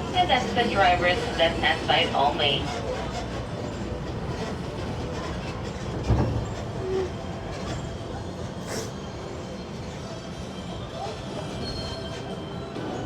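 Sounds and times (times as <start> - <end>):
tram idling rumble: 0.0 - 11.6.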